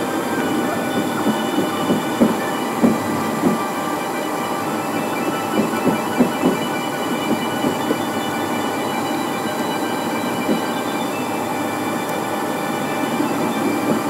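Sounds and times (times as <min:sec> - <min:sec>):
airliner cabin rolling hum: 0:00.0 - 0:14.0
faint whining tones: 0:00.0 - 0:14.0.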